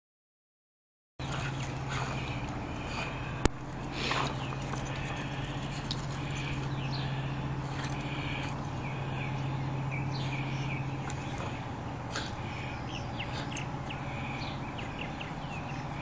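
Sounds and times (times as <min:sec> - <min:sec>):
birds chirping: 0:01.2 - 0:16.0
steady low hum: 0:01.2 - 0:16.0.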